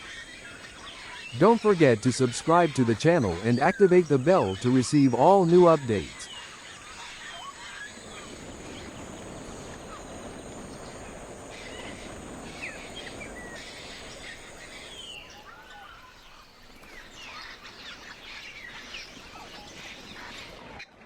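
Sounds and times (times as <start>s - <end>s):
bird chirps and calls: 0.0s - 20.5s
steady hiss: 0.0s - 20.5s.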